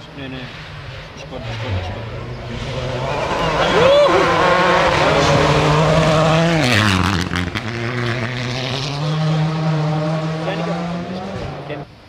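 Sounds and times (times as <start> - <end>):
rally car engine revving: 0.0 - 11.9.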